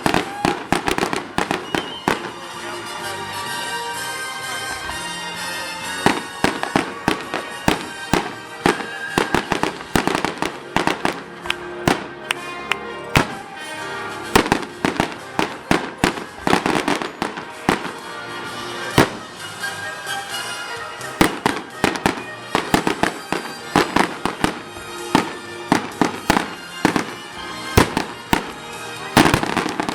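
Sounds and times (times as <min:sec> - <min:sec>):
fireworks exploding: 0:00.0 - 0:04.0, 0:04.7 - 0:29.9
music: 0:00.0 - 0:29.9.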